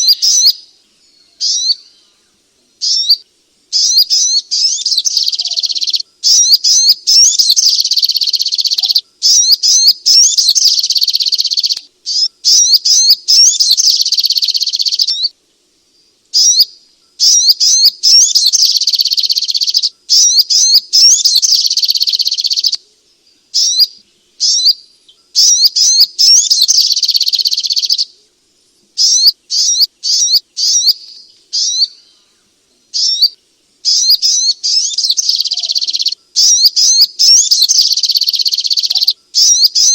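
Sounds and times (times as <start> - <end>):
bird singing high chirping notes: 0.0 - 2.0, 2.8 - 15.3, 16.4 - 22.8, 23.6 - 28.1, 29.0 - 32.0, 32.9 - 39.9.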